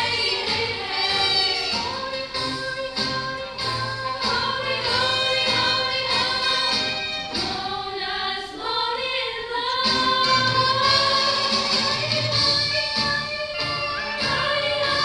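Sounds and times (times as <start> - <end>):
group of women singing: 0.0 - 15.0
woman singing lead: 0.0 - 15.0.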